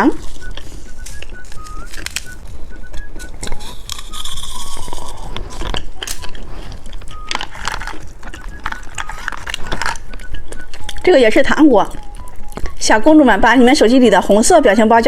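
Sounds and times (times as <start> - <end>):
popping candy crackling: 0.0 - 15.0.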